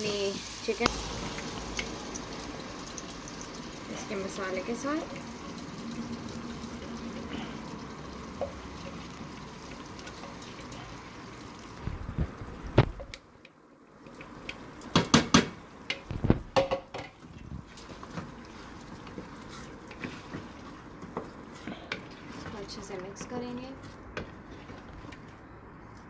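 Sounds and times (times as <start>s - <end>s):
spices sizzling in a pot: 0.0s - 13.2s, 16.8s - 24.9s.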